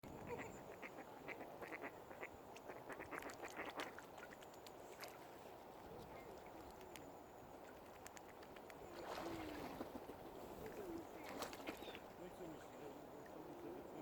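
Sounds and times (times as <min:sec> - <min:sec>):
waterbirds calling: 0:00.0 - 0:14.0.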